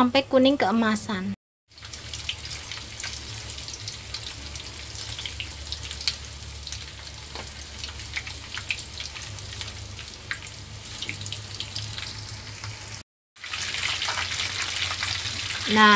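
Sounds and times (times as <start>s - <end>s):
deep-frying sizzle and pops: 1.7s - 15.9s.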